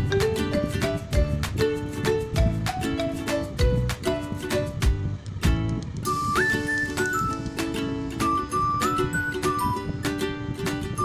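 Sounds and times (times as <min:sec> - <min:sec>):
light regular beat: 0:00.0 - 0:11.0
whistled melody: 0:00.1 - 0:04.8, 0:06.0 - 0:11.0.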